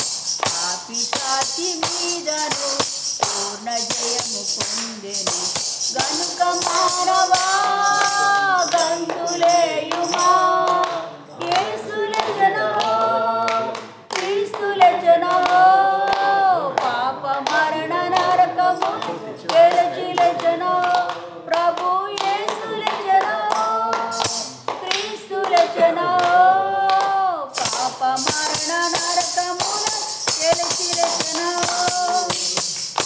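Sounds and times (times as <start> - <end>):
hand claps: 0.0 - 33.0
woman singing: 0.0 - 33.0.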